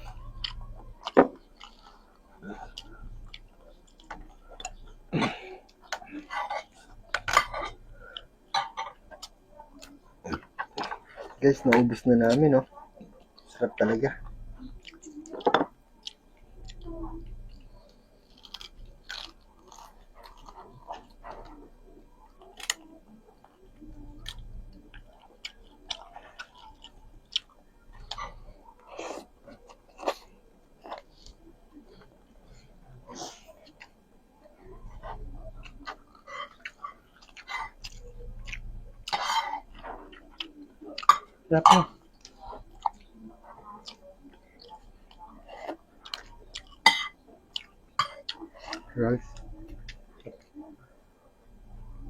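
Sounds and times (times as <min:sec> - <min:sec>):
chewing with crunches: 0:00.0 - 0:51.0.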